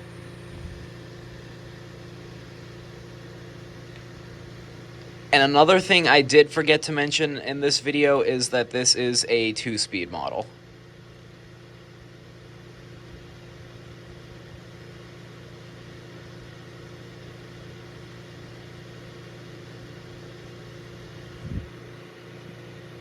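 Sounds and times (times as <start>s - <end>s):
table fan running: 0.0s - 23.0s.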